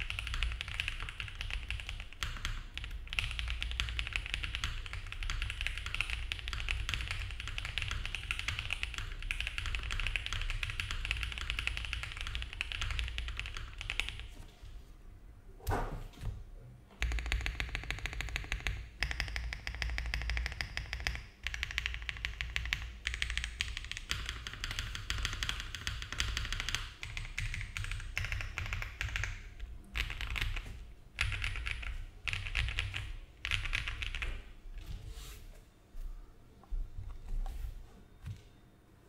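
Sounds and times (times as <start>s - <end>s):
fast typing on mechanical keyboard: 0.0s - 14.3s, 17.0s - 34.4s.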